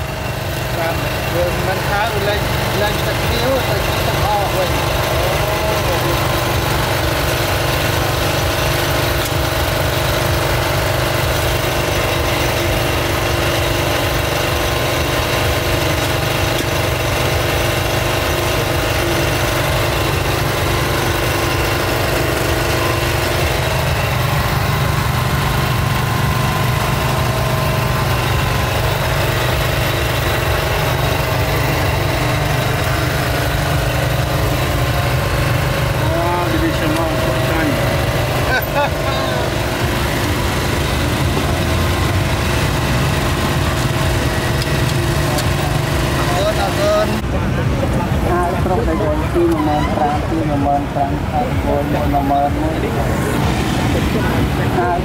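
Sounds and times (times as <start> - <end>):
mechanical drone: 0.0 - 55.0.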